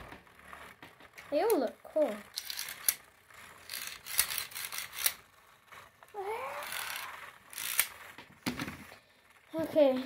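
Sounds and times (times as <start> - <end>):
plastic toy clicks and rattles: 0.0 - 10.0.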